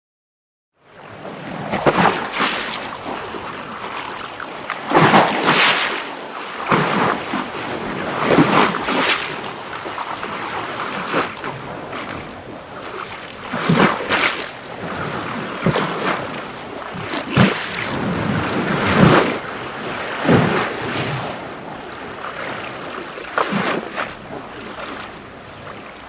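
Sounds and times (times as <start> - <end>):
small waves lapping and splashing: 0.8 - 26.0.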